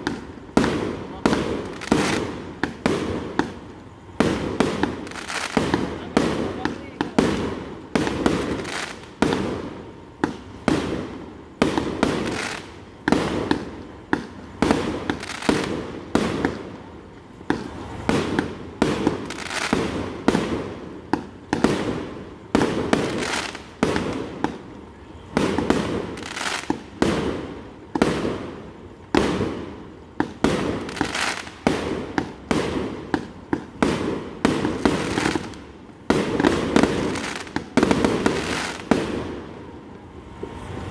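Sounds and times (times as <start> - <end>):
fireworks bangs: 0.0 - 39.8.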